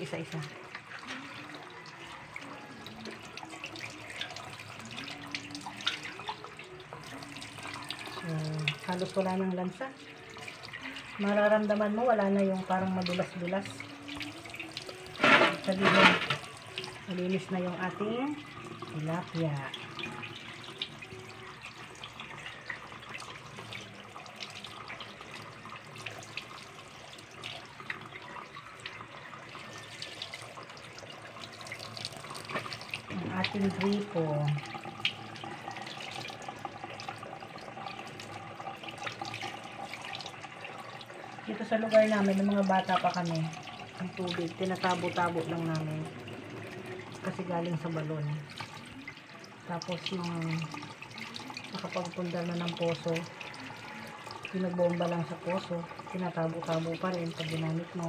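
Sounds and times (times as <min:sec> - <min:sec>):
faucet running into sink: 0:00.0 - 0:58.0
water splashing: 0:00.0 - 0:58.0.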